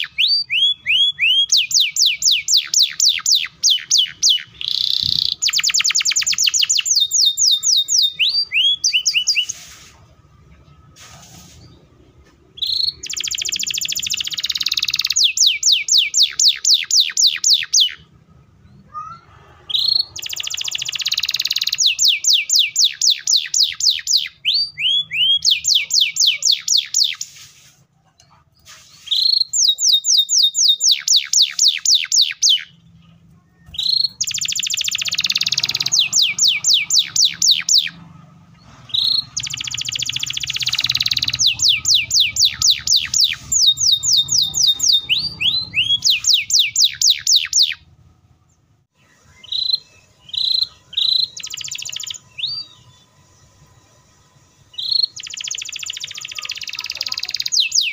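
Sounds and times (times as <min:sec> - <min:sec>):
canary singing: 0:00.0 - 0:09.8, 0:10.4 - 0:27.5, 0:28.1 - 0:57.9.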